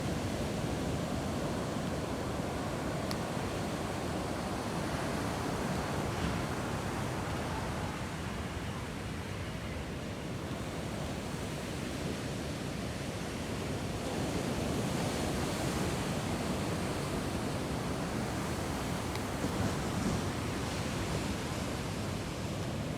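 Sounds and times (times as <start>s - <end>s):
surf washing on sandy beach: 0.0s - 22.9s.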